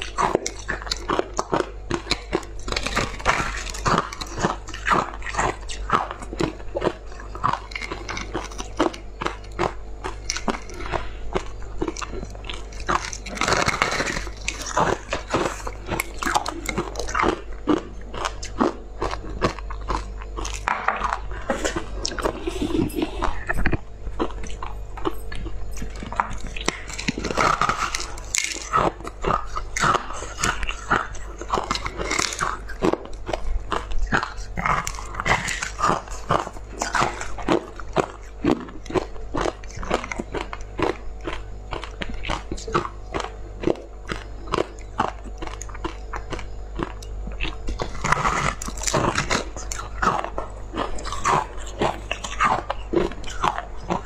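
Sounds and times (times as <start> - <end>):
crunching ice between teeth: 0.0 - 54.0
steady low hum: 0.0 - 54.0.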